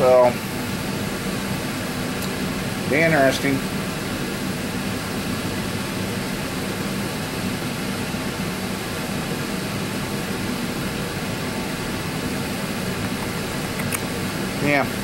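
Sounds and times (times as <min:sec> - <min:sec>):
fan unit humming: 0:00.0 - 0:15.0.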